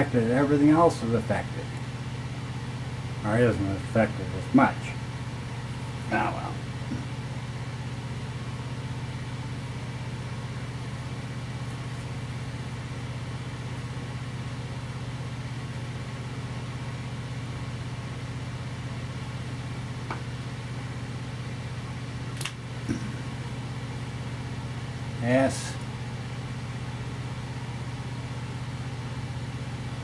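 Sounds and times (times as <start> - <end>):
low mechanical motor hum: 0.0 - 30.0.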